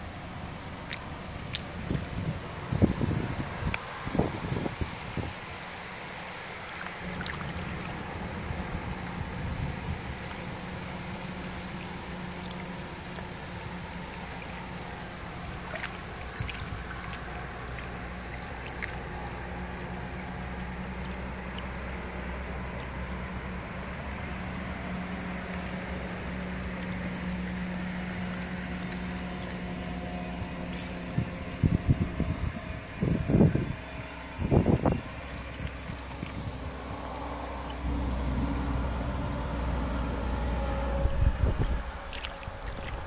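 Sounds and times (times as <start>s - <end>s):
boat motor running: 0.0s - 43.0s
water washing along hull: 0.0s - 43.0s.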